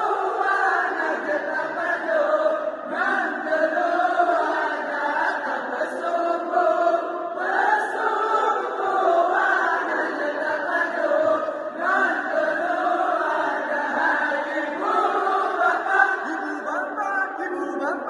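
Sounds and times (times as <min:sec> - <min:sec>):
voices chanting melodically: 0:00.0 - 0:18.0.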